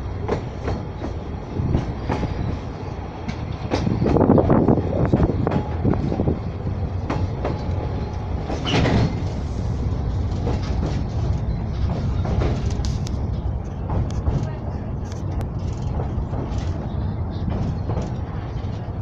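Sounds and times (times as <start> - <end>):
small train rumbling: 0.0 - 19.0.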